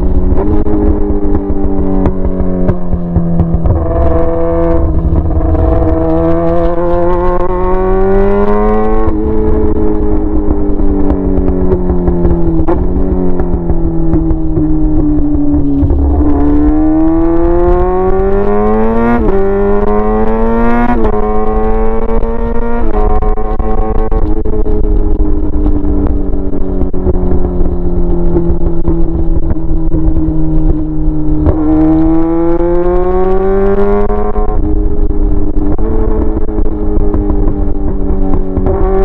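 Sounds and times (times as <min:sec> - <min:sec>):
loud motorcycle engine revving: 0:00.0 - 0:27.4, 0:28.4 - 0:39.0.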